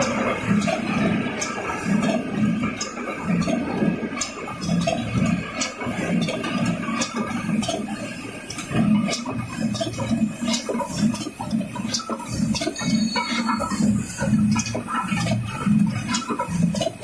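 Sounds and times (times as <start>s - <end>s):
air cylinder hisses and clicks: 0.0s - 17.0s
conveyor rumbling and rattling: 0.0s - 17.0s.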